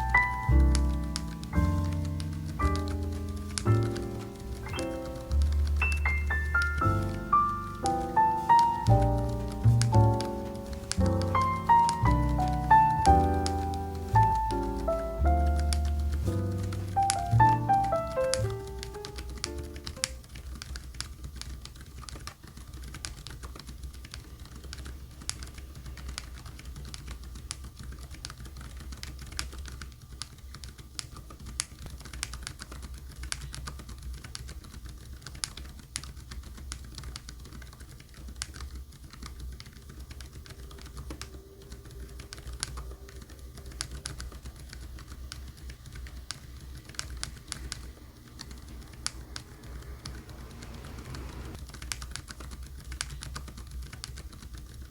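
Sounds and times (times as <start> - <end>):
soft mechanical keyboard typing: 0.0 - 54.9.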